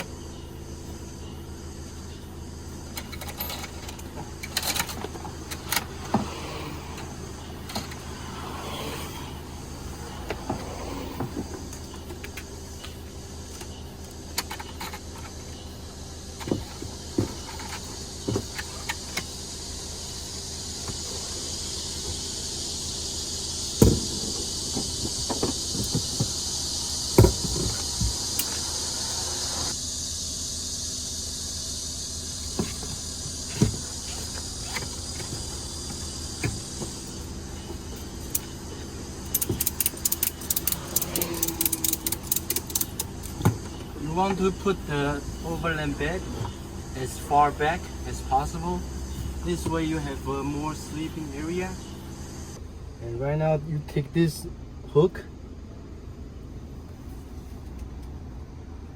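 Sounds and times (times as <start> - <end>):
steady low hum: 0.0 - 58.9
hiss: 4.4 - 52.6.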